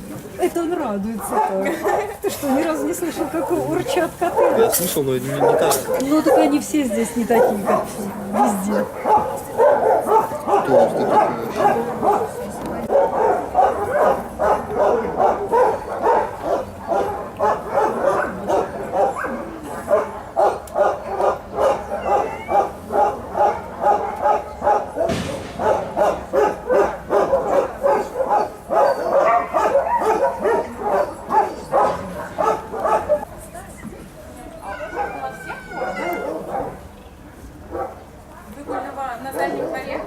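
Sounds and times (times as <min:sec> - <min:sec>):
dogs barking: 0:01.1 - 0:33.3, 0:34.6 - 0:36.9, 0:37.7 - 0:40.0.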